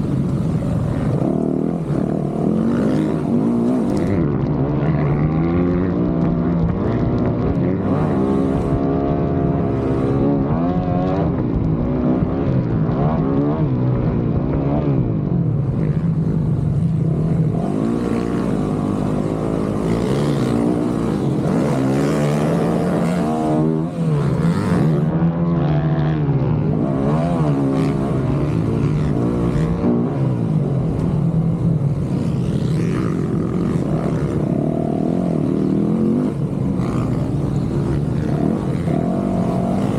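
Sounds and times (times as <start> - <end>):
dirt bike engine revving: 0.0 - 11.2, 15.8 - 31.2, 31.8 - 39.9.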